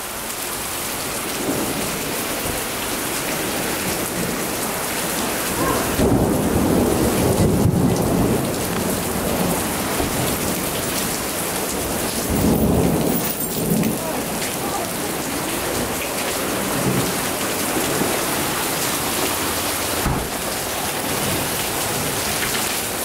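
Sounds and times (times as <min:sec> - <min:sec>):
heavy rain pouring: 0:00.0 - 0:23.0
thunder rumbling: 0:01.3 - 0:22.5.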